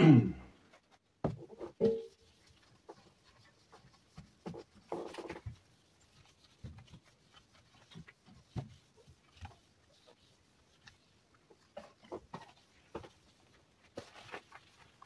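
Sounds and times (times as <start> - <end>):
scrape or rustle: 1.6 - 15.0.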